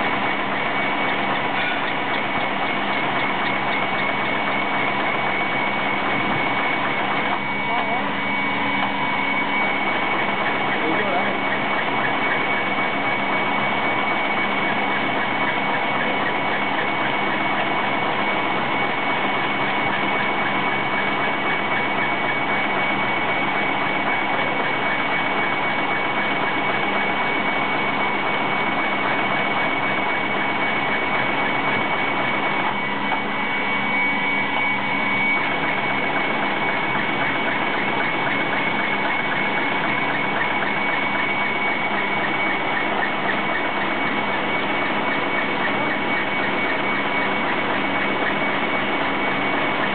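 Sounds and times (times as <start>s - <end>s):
steady high tone: 0.0s - 20.7s, 21.3s - 49.9s.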